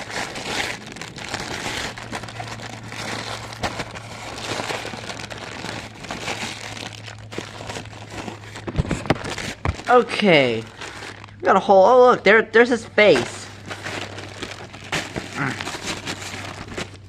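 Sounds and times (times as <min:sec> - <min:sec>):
plastic bag crinkling and tearing: 0:00.0 - 0:11.7, 0:12.7 - 0:17.0.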